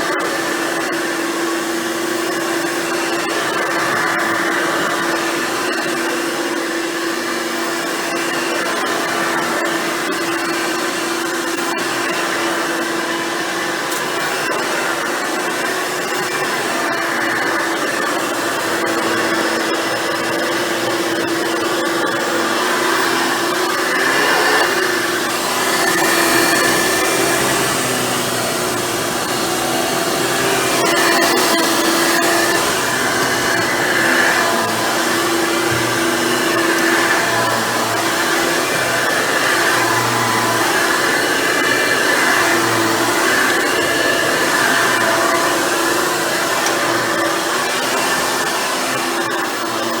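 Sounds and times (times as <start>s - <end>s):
vacuum cleaner motor hum: 0.0s - 50.0s.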